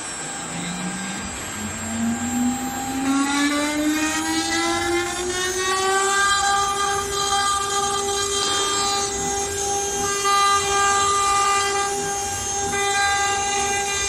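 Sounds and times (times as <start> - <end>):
router spindle motor whine: 0.0 - 14.0.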